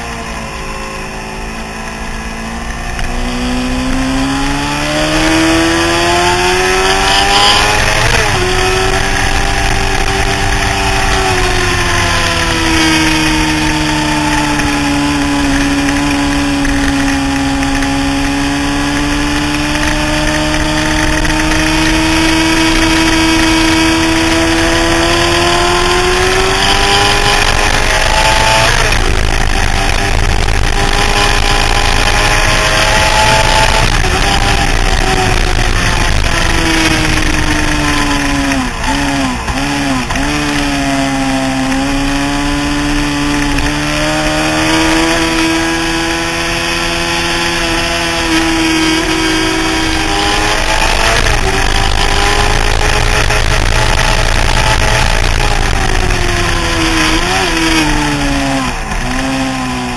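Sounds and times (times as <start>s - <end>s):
motorcycle engine accelerating: 0.0s - 59.9s
wind rush on microphone: 4.4s - 59.2s.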